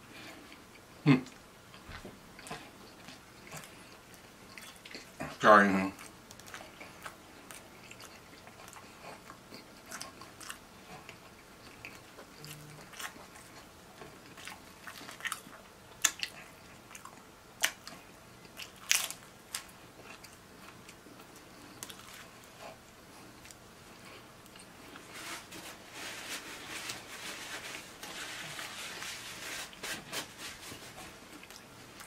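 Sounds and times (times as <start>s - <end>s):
person chewing pizza: 0.0s - 32.0s
food crunching: 0.3s - 32.0s.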